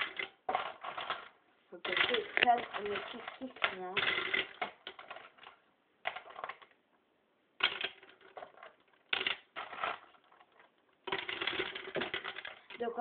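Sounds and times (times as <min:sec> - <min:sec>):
plastic clacking and rattling: 0:00.0 - 0:06.8, 0:07.6 - 0:13.0.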